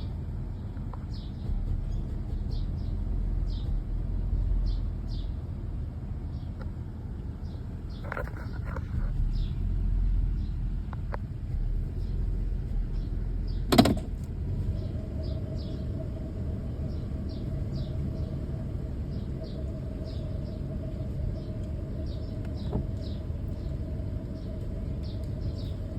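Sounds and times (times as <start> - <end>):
engine sputtering: 0.0 - 25.9
steady whine: 0.0 - 25.9.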